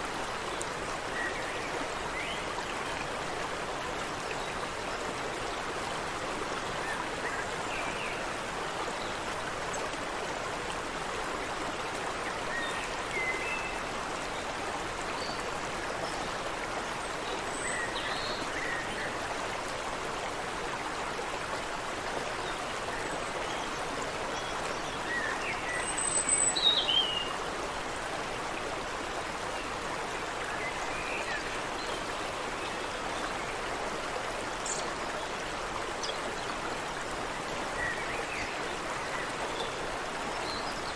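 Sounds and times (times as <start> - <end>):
creek water running over rocks: 0.0 - 40.9.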